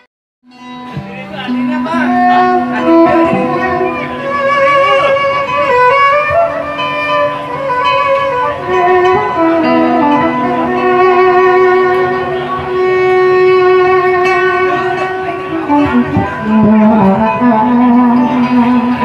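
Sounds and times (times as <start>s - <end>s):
violin slow melody: 0.4s - 19.0s.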